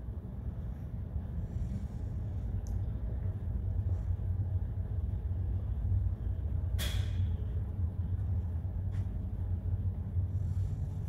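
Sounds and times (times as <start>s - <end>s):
ship engine rumble: 0.0s - 11.0s.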